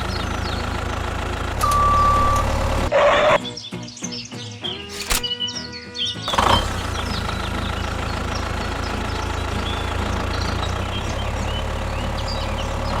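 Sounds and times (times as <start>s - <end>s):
tractor engine running: 0.0s - 3.4s, 4.9s - 5.3s, 6.3s - 13.0s.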